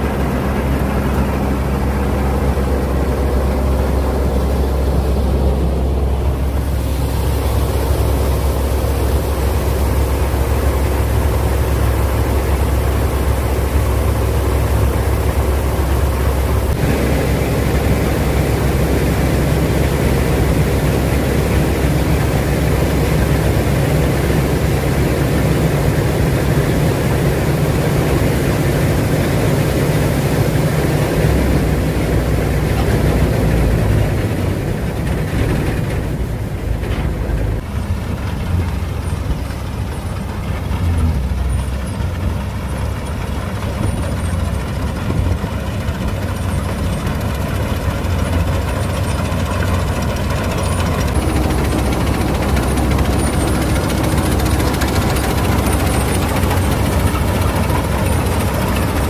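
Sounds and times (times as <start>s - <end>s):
broad rushing noise: 0.0s - 59.0s
diesel engine humming: 0.0s - 59.0s.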